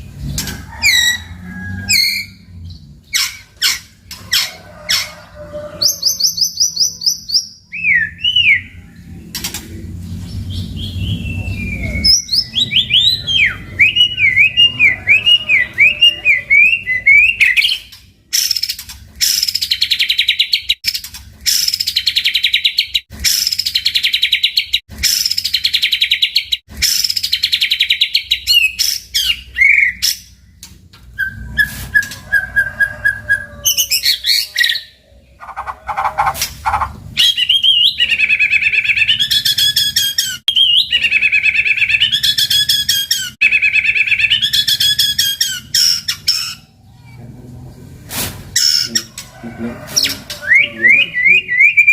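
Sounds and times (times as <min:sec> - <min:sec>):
bird singing varied song: 0:05.6 - 0:32.1, 0:32.9 - 0:47.3, 0:50.0 - 0:51.9.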